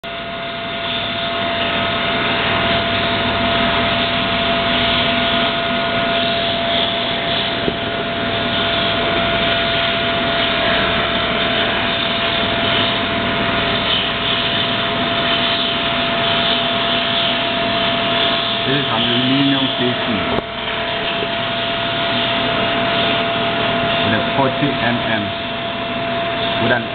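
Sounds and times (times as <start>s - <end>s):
milling machine running with whine: 0.0s - 26.9s.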